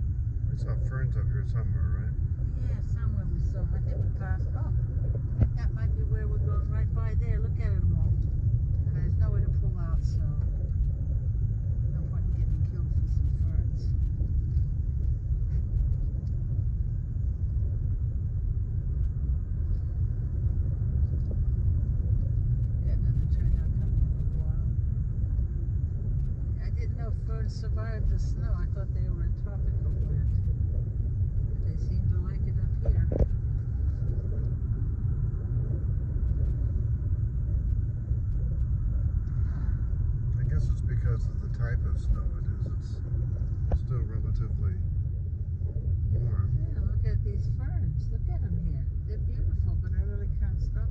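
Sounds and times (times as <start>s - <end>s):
car driving on snow rumble: 0.0s - 50.9s.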